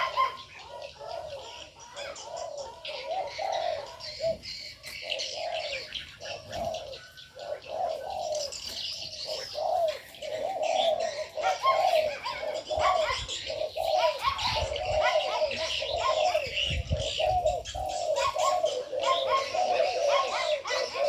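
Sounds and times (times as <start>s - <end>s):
doves cooing: 0.0s - 21.0s
small birds chirping: 0.0s - 21.0s.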